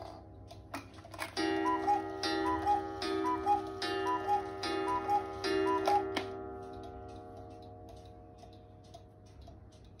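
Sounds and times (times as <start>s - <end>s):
clock ticking: 0.0s - 10.0s
cuckoo clock call: 0.5s - 8.6s.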